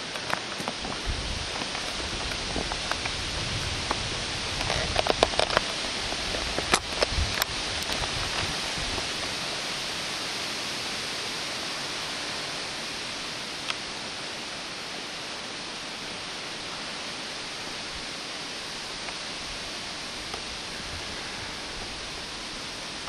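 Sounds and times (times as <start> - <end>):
wind through treetops: 0.0 - 23.0.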